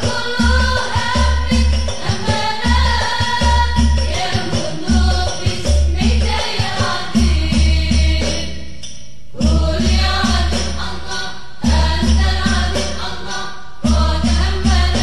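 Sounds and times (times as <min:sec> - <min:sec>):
frame drums: 0:00.0 - 0:15.0.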